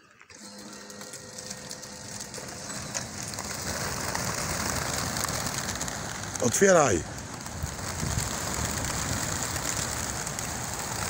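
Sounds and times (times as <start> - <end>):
pigeon wings clattering and flapping: 0.4 - 11.0.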